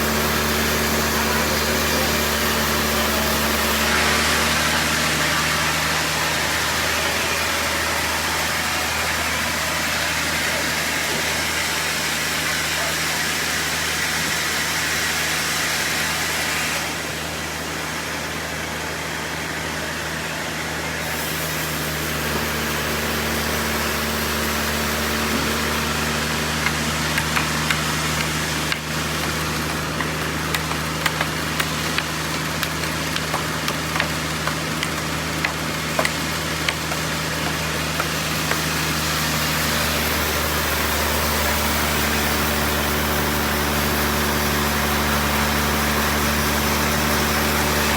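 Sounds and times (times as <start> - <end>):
sawmill machinery droning: 0.0 - 47.9.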